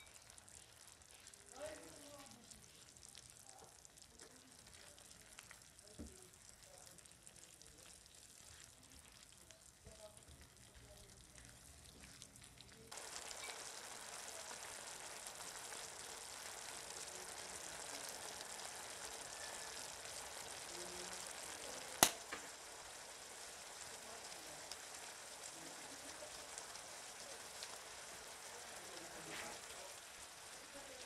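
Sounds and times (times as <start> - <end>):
food sizzling in a pan: 0.0 - 31.0
spatula stirring food: 0.0 - 31.0.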